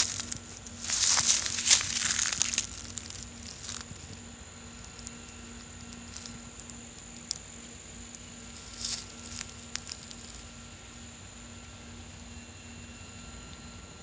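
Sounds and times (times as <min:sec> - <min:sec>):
dry leaves and twigs rustling: 0:00.0 - 0:11.5
faint steady hum: 0:00.0 - 0:14.0.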